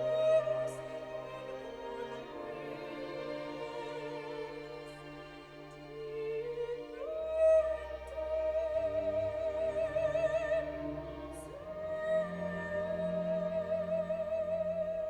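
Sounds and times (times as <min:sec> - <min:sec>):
operatic singing with vibrato: 0:00.0 - 0:15.0
orchestral accompaniment: 0:00.0 - 0:15.0.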